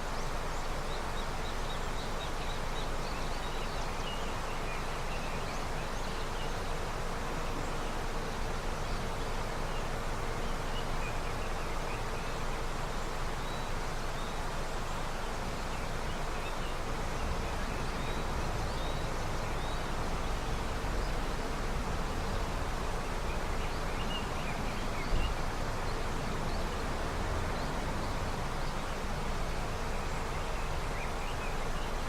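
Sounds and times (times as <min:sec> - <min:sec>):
river flowing: 0:00.0 - 0:32.0.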